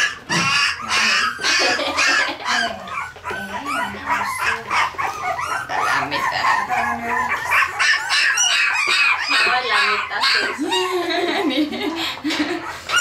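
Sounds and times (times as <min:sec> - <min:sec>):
puppies squealing and yipping: 0:00.0 - 0:13.0.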